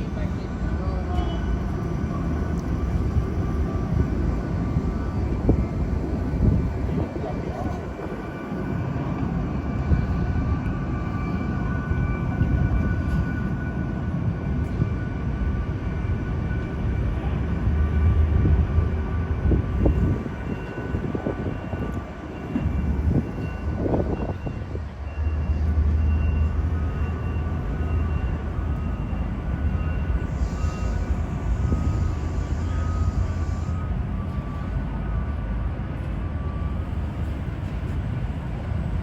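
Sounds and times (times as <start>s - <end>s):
jet engine high whines: 0.0s - 39.0s.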